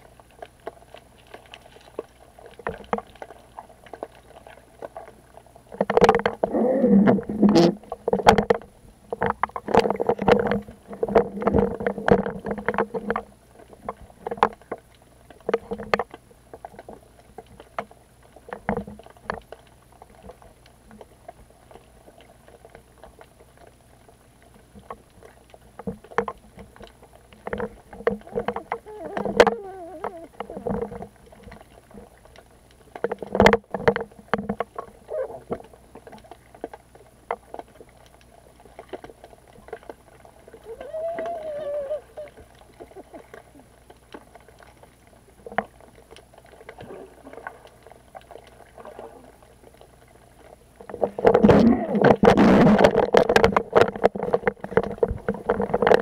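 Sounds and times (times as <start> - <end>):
underwater swimming sloshing: 0.0 - 56.0.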